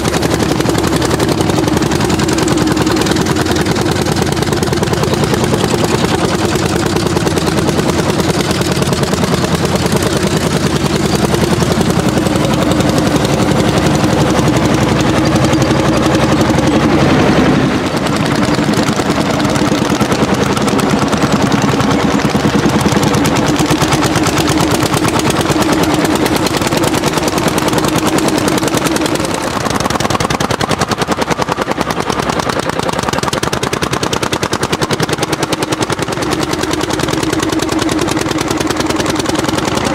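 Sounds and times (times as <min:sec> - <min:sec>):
tractor engine at full throttle: 0:00.0 - 0:39.9.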